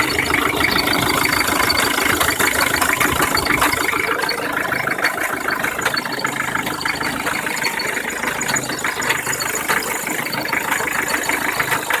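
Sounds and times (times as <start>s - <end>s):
diesel engine idling with clatter: 0.0s - 12.0s.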